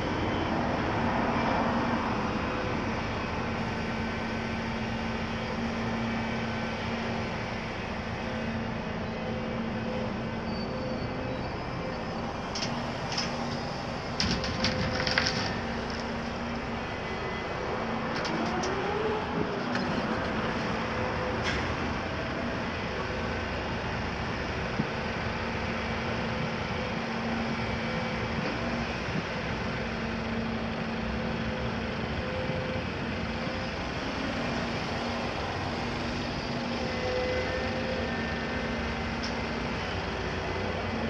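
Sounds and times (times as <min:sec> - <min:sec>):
excavator engine running: 0:00.0 - 0:41.0.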